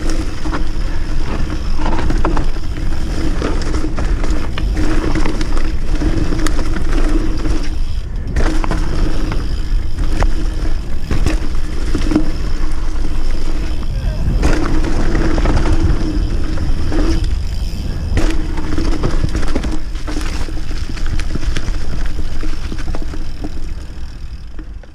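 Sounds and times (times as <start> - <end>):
bike rattling over bumps: 0.0 - 24.9
buzzing hum: 0.0 - 24.9
tyres on dirt: 0.0 - 24.9
wind rumble on camera: 0.0 - 24.9.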